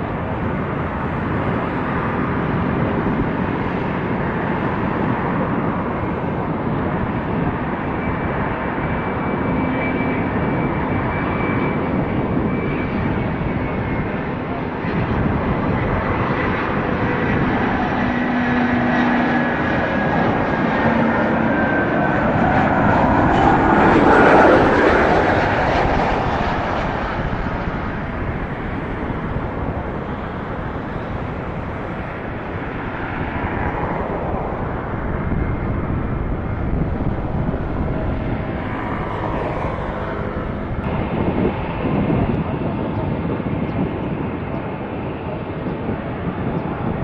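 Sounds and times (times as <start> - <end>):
jet engine rumble: 0.0 - 47.0.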